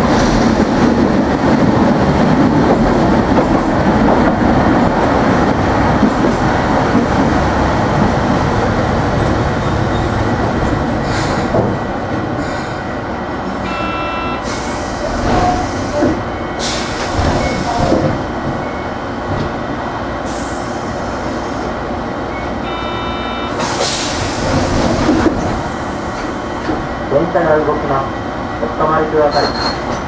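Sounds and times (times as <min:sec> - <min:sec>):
tram rumble: 0:00.0 - 0:30.0.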